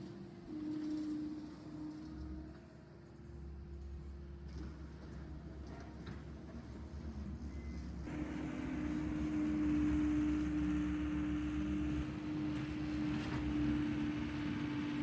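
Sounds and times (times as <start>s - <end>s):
power rake whine: 0.0s - 5.8s, 7.5s - 15.0s
tractor engine drone: 0.0s - 15.0s.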